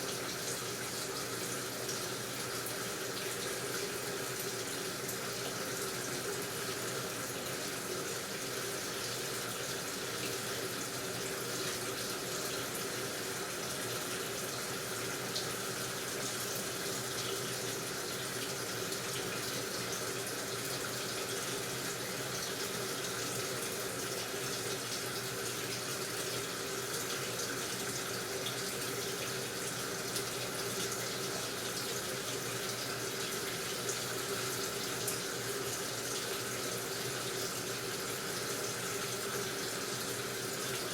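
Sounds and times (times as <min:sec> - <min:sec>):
water filling washing machine tub: 0:00.0 - 0:40.9.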